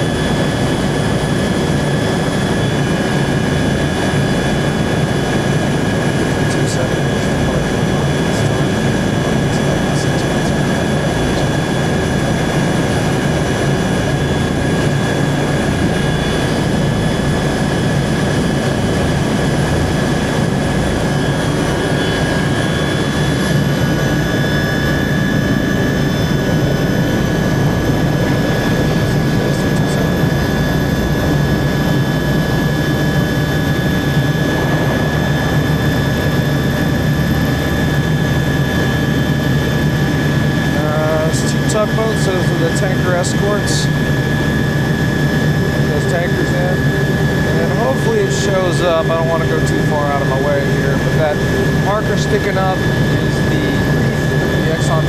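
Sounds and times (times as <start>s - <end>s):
helicopter rotor and engine noise: 0.0s - 55.0s
turbine whine: 0.0s - 55.0s.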